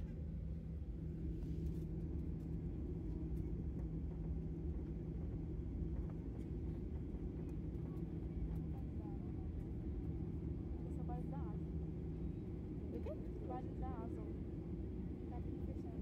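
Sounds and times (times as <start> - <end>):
jet engine cabin drone: 0.0 - 16.0.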